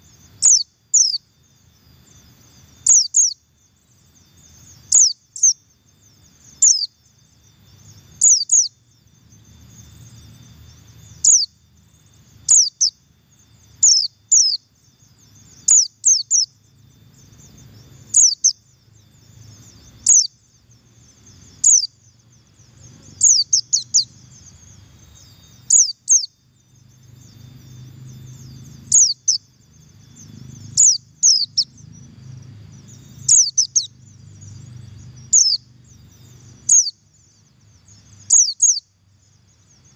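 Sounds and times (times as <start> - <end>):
bird chirping calls: 0.0 - 39.9
faint low hum: 0.0 - 39.9.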